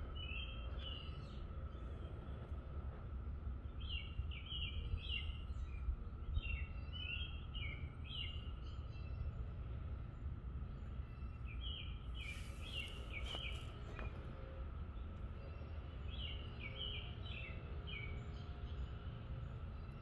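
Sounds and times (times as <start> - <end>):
low background rumble: 0.0 - 20.0
songbird chirping: 0.0 - 20.0.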